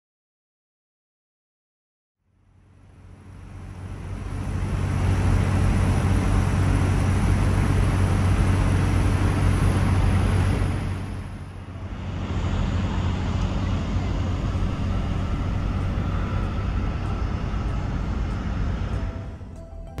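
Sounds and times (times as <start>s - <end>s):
low engine hum: 2.3s - 20.0s
road and wind noise: 2.4s - 20.0s.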